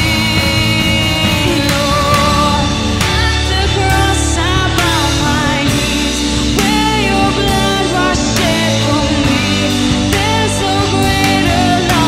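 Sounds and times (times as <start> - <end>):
electric bass: 0.0 - 12.0
woman singing: 0.0 - 12.0
worship band music: 0.0 - 12.0.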